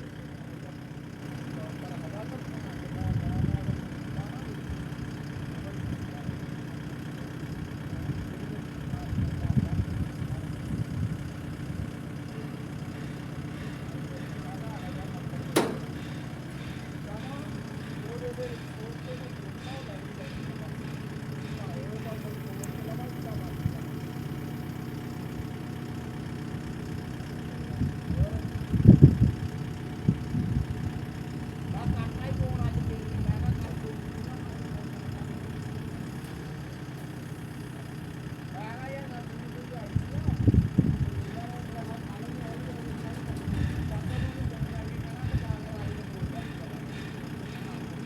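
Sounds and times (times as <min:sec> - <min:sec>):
engine idling: 0:00.0 - 0:48.0
low engine bursts: 0:00.0 - 0:48.0.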